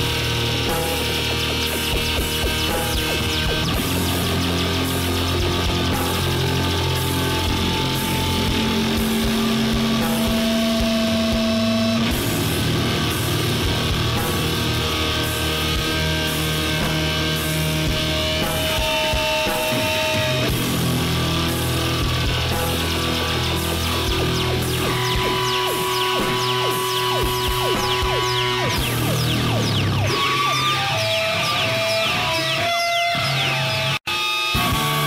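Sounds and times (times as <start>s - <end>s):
drums with repeating cymbal: 0.0s - 31.6s
bass guitar: 0.0s - 35.0s
distorted electric guitar: 0.0s - 35.0s.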